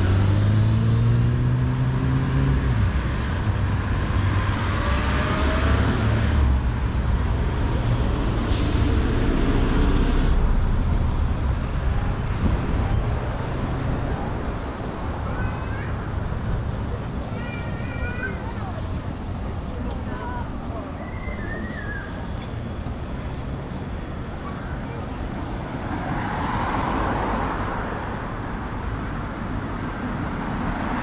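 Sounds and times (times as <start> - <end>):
road traffic rumbling: 0.0 - 31.0
vehicles rushing past: 0.0 - 31.0.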